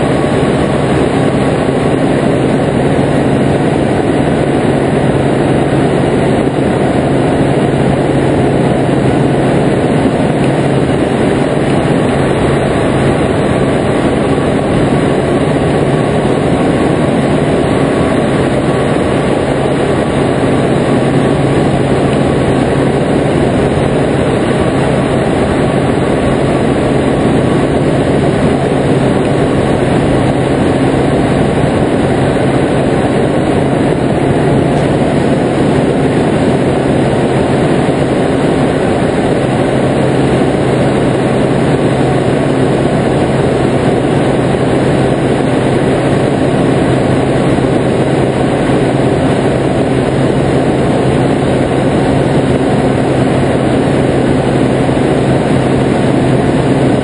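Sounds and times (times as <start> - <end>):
paramotor engine and propeller drone: 0.0 - 57.0.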